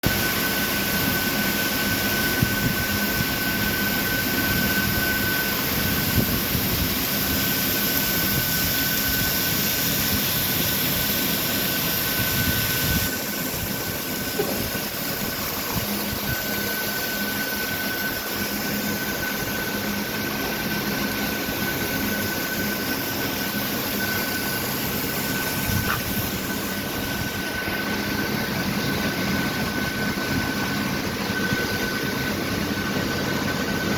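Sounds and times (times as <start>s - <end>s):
thin high whine: 0.0s - 33.9s
lathe running: 0.1s - 33.9s.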